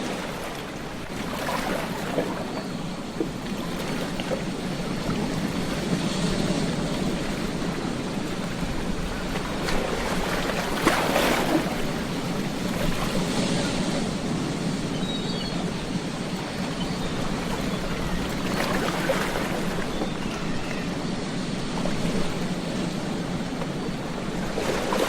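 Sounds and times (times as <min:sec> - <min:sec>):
ocean waves on a beach: 0:00.0 - 0:25.0.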